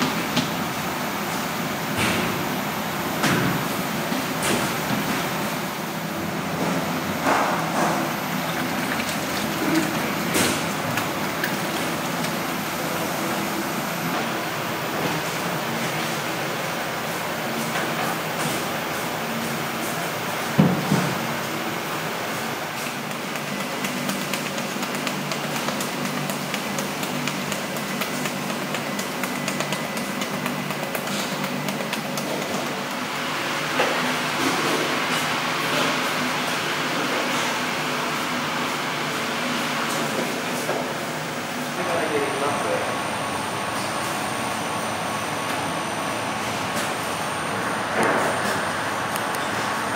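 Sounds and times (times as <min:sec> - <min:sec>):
stand mixer running: 0:00.0 - 0:49.9.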